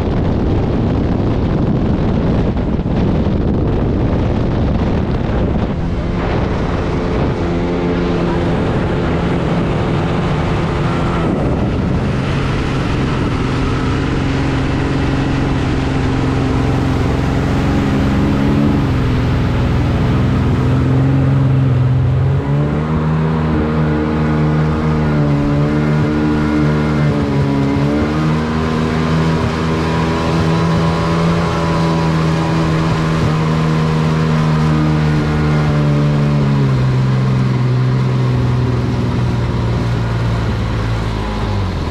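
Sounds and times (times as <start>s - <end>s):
jet ski engine running: 0.0s - 41.9s
water rushing: 0.0s - 41.9s.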